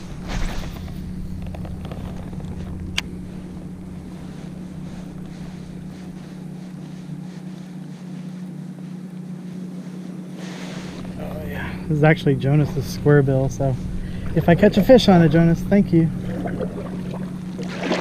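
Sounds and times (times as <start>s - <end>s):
light wind: 0.0s - 18.0s
steady low hum: 0.0s - 18.0s.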